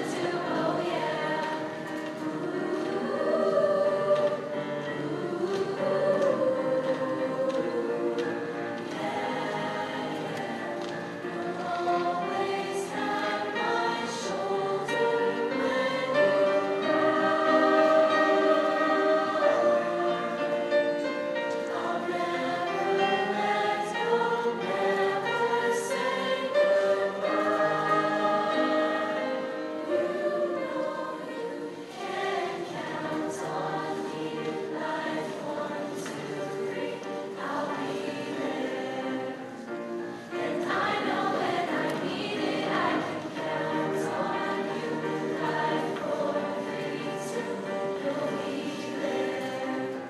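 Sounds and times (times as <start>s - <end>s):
choir singing in harmony: 0.0s - 50.0s.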